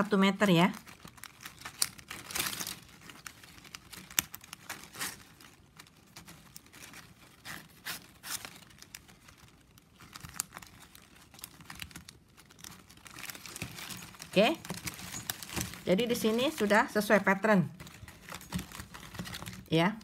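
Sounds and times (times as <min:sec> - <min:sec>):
plastic strapping crinkling: 0:00.0 - 0:20.0.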